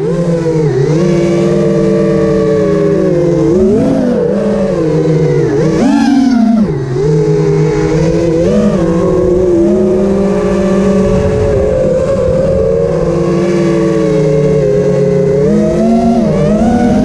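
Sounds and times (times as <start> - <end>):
drone motors and propellers whining: 0.0 - 17.0.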